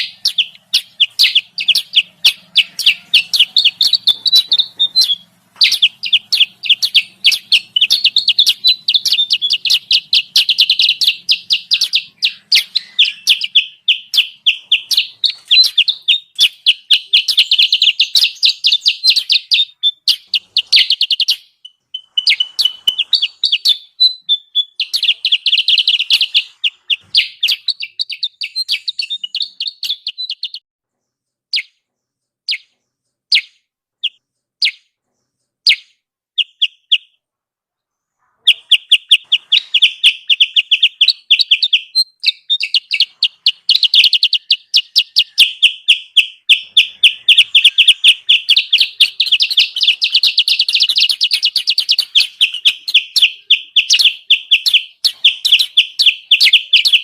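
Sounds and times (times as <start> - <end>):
rapid high bird chirping: 0.0 - 37.2, 37.9 - 57.0.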